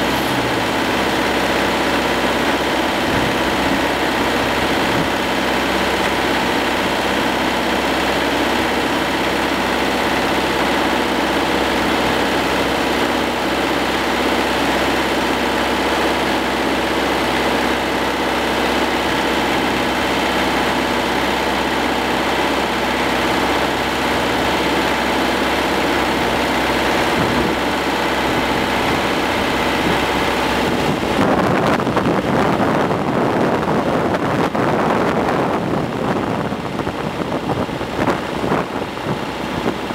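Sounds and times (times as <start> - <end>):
tractor diesel engine running: 0.0 - 39.9
wind noise on microphone: 0.0 - 39.9.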